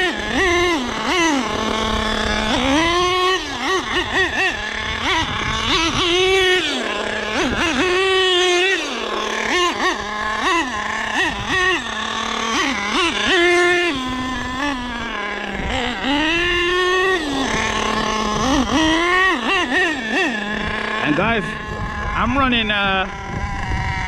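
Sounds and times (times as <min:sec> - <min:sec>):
small engine revving: 0:00.0 - 0:24.0.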